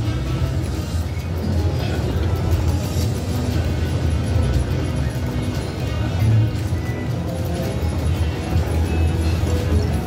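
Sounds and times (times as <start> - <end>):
slot machine music and sounds: 0.0 - 10.0.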